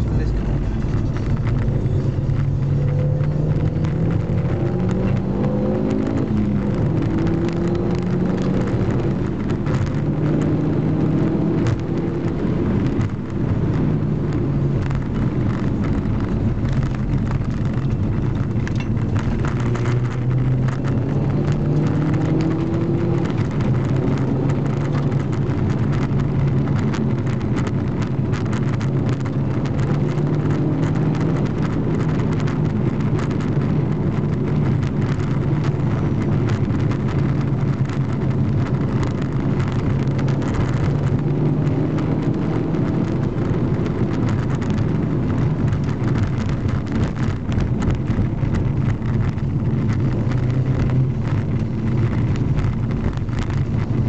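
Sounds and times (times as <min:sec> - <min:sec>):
car engine revving through gears: 0:00.0 - 0:54.0
tyre and road rumble: 0:00.0 - 0:54.0.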